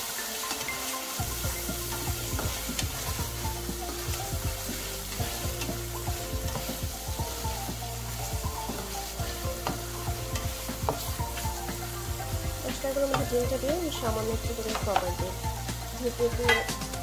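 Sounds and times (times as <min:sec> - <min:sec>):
eggs sizzling in a pan: 0:00.0 - 0:17.0.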